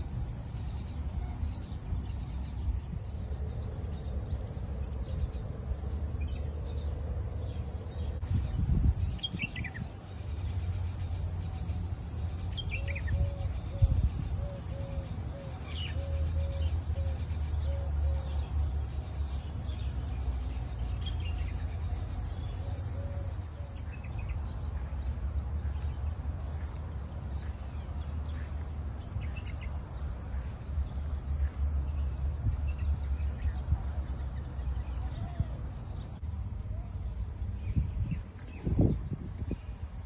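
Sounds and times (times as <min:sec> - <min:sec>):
insect drone: 0:00.0 - 0:40.0.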